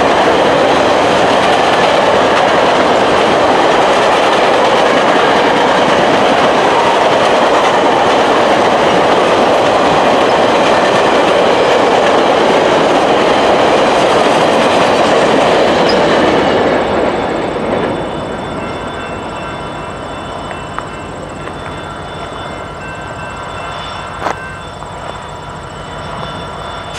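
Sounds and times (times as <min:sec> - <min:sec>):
train wheels rushing on rail: 0:00.0 - 0:26.9.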